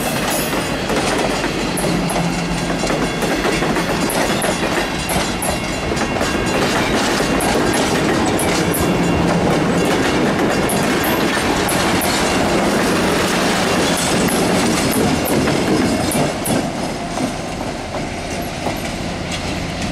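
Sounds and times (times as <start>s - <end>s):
diesel locomotive engine drone: 0.0s - 19.9s
train wheels clicking over rail joints: 0.0s - 19.9s.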